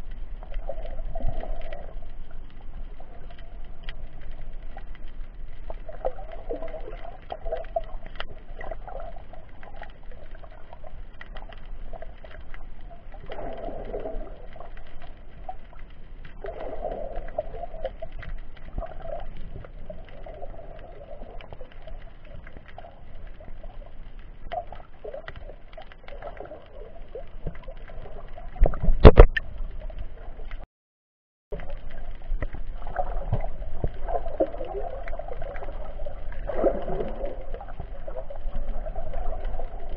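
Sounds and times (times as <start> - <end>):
muffled underwater water wash: 0.0 - 30.6, 31.5 - 39.9
small clicks and crackles: 0.0 - 30.6, 31.5 - 39.9.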